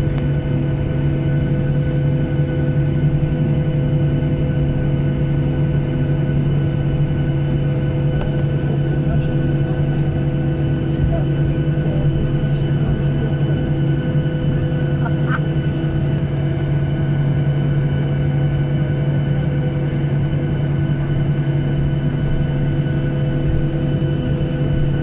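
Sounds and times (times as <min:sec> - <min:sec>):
engine drone: 0:00.0 - 0:25.0.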